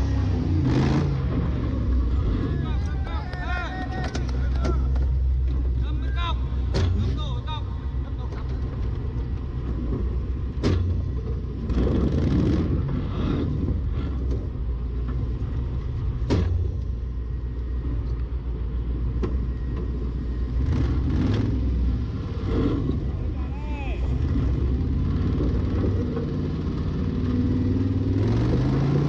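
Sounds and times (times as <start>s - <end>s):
truck engine idling: 0.0s - 28.3s.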